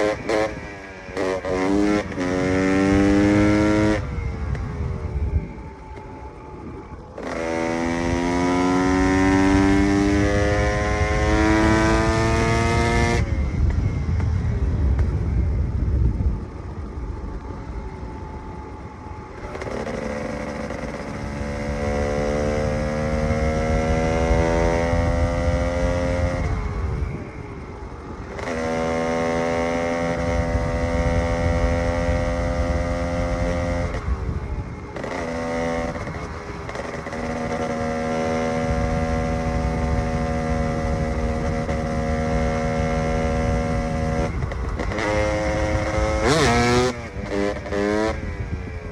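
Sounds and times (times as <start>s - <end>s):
motorcycle engine revving: 0.0s - 16.0s, 19.0s - 48.9s.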